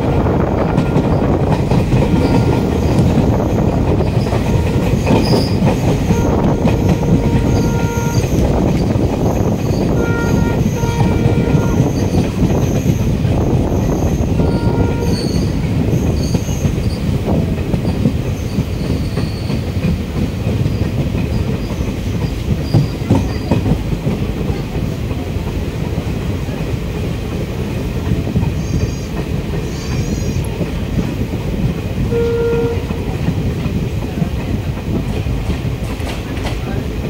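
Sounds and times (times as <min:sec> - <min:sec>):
rail-joint clicks: 0:00.0 - 0:37.0
train wheels rumbling on rails: 0:00.0 - 0:37.0.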